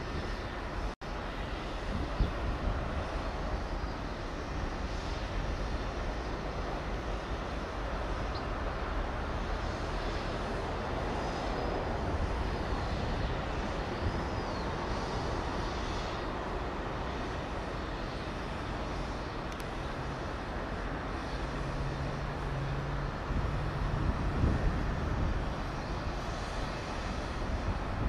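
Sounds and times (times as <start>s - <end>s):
distant traffic and machinery: 0.0s - 28.0s
hiss: 0.0s - 28.0s.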